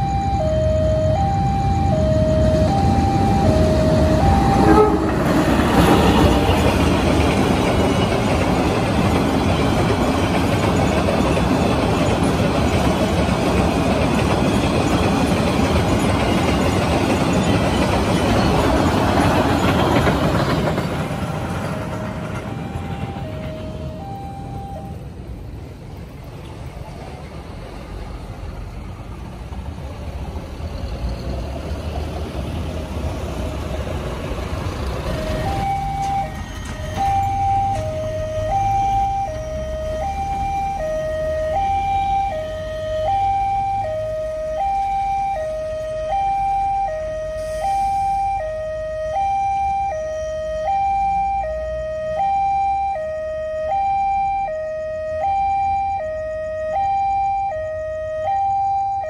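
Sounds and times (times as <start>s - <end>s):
two-tone crossing alarm: 0.0s - 25.1s, 34.4s - 59.0s
road traffic passing: 0.0s - 59.0s.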